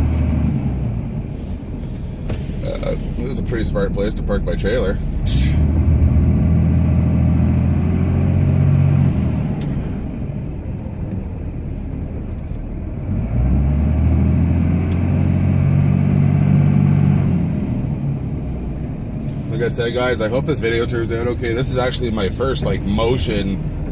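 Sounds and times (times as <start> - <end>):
diesel truck engine under load: 0.0 - 23.9.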